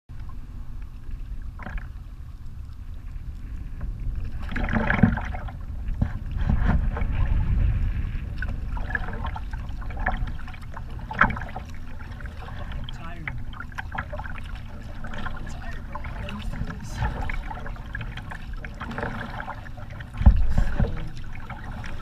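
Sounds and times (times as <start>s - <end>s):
wind rumble on microphone: 0.1s - 22.0s
kayak paddle splashing: 0.2s - 22.0s.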